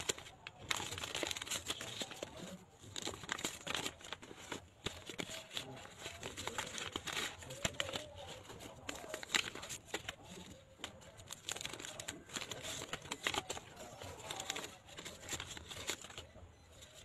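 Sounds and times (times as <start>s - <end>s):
paper tearing: 0.0s - 16.2s
paper envelopes rustling: 0.0s - 17.0s.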